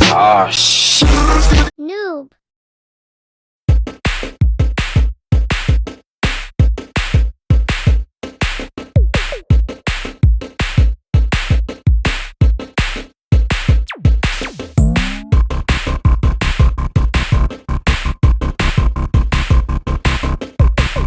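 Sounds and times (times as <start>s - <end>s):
electronic music with drum-machine beat: 1.0s - 1.7s, 3.7s - 21.0s.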